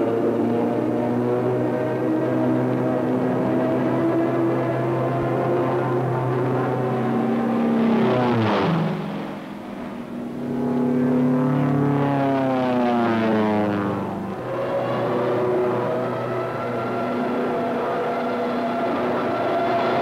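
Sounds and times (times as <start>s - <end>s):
propeller plane engine fly-past: 0.0s - 20.0s.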